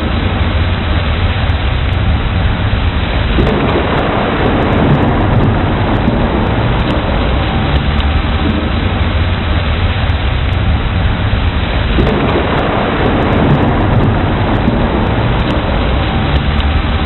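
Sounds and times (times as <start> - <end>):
heavy rain: 0.0 - 17.0
thunder rolling: 0.0 - 17.0.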